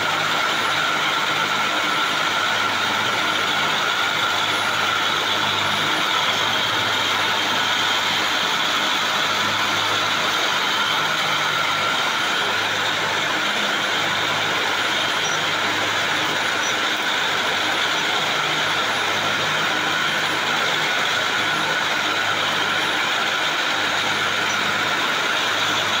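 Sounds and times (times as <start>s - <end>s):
spinning machines din: 0.0s - 26.0s.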